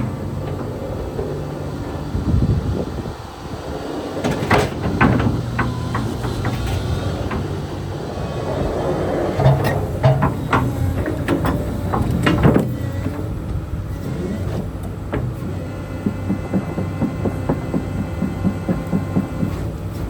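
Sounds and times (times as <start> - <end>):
excavator engine humming: 0.0 - 20.0.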